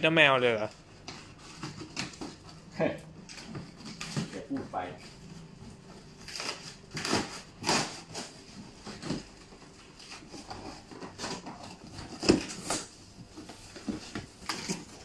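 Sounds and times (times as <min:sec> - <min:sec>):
cardboard flaps rustling: 0:00.9 - 0:15.0.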